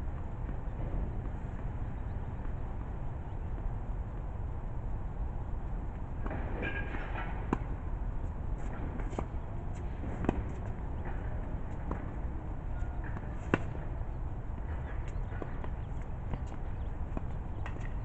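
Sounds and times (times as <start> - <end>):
tennis ball bounces: 0.1 - 4.5, 5.7 - 18.0.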